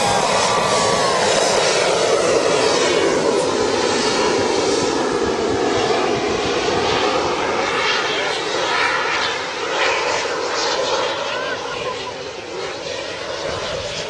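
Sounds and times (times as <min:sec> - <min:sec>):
model jet turbine roar: 0:00.0 - 0:14.0.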